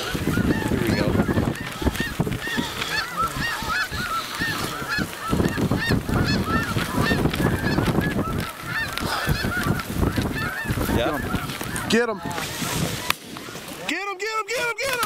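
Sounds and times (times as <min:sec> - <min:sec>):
snow geese honking: 0:00.0 - 0:15.0.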